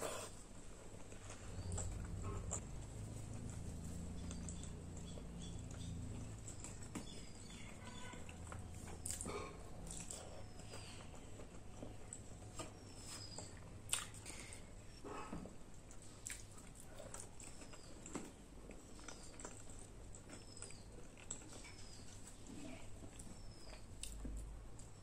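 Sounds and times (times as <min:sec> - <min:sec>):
chewing and mouth sounds: 0:00.0 - 0:25.0.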